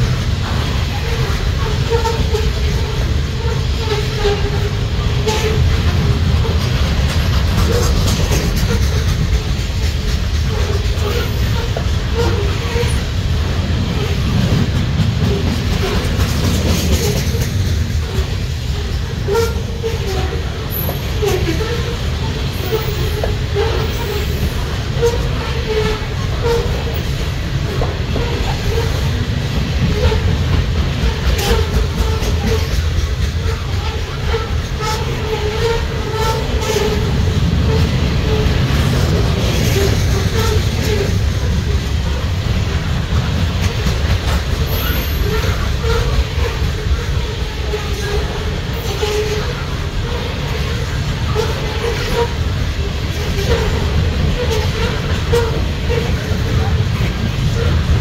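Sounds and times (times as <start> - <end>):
train clicks and clacks: 0.0 - 58.0
train wheels rumbling on rails: 0.0 - 58.0.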